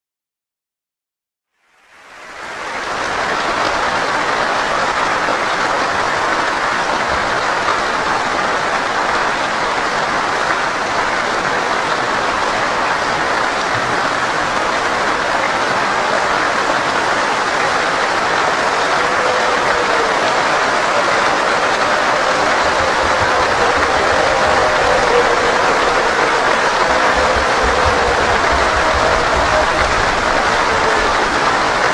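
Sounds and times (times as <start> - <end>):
crowd applauding: 2.1 - 31.9.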